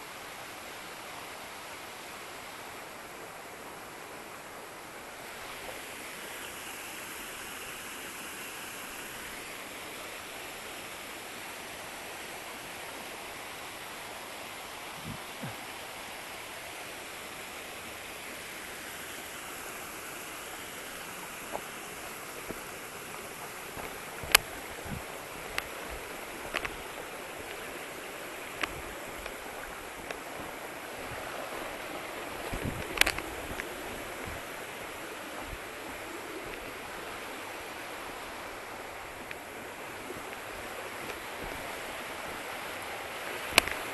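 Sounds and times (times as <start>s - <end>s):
waterfall rushing: 4.7s - 43.9s.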